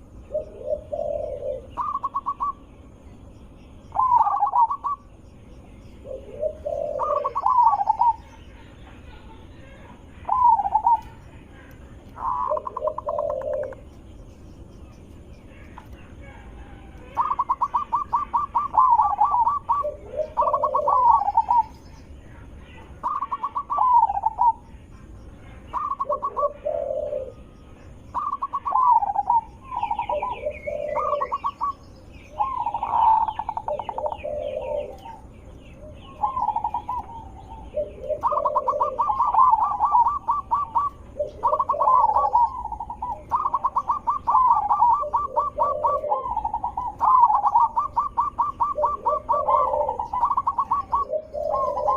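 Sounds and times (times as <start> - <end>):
dove singing and cooing: 0.0 - 51.9
small bird chirping: 0.0 - 51.9.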